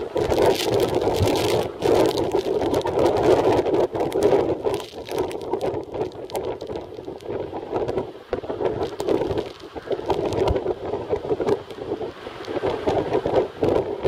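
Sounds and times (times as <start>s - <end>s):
wind gusts buffeting microphone: 0.0s - 14.0s.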